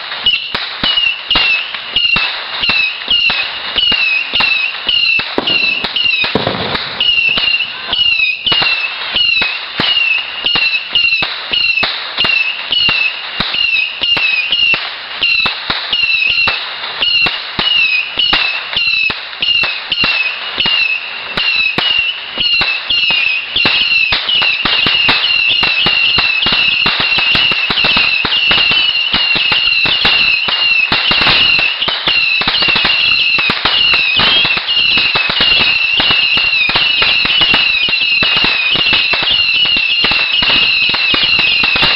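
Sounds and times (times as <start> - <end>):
fireworks cracking and whistling: 0.0 - 41.9.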